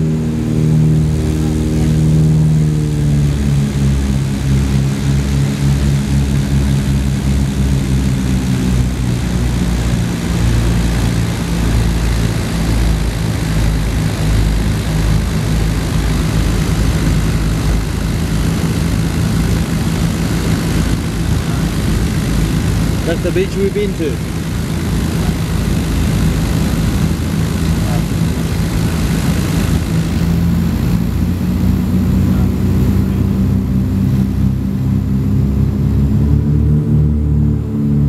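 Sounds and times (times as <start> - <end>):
propeller aircraft engines droning: 0.0 - 38.0.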